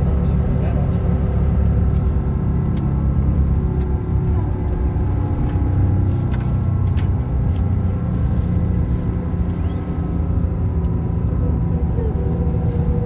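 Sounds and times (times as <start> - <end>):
faint steady whine: 0.0 - 13.0
vehicle road and engine rumble: 0.0 - 13.0.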